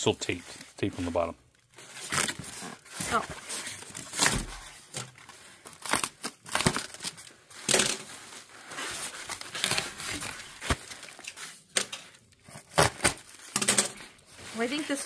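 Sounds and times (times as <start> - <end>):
plastic bag crinkling: 0.7 - 15.0.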